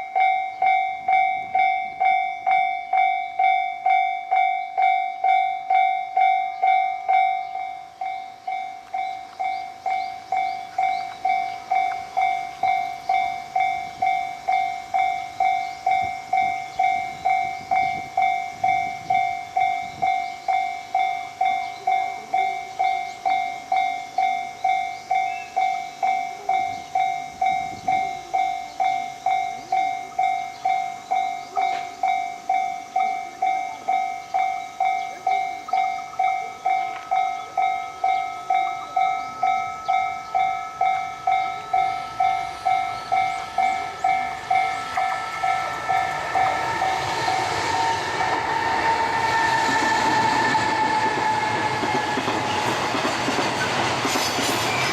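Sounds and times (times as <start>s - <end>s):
level crossing bell ringing: 0.0s - 48.8s
train running noise: 0.0s - 54.9s.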